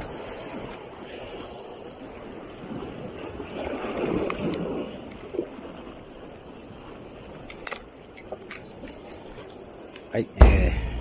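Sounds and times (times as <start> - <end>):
sea waves splashing against rocks: 0.0 - 11.0
wind on microphone: 0.0 - 11.0.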